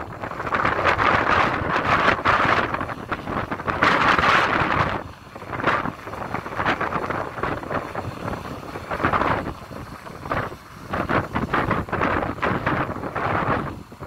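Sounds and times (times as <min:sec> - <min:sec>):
excavator engine straining: 0:00.0 - 0:14.0
wind buffeting microphone: 0:00.0 - 0:14.0.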